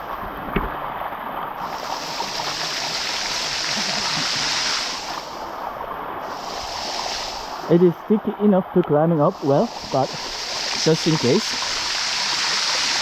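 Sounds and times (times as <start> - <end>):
waterfall splashing over rock: 0.0 - 13.0.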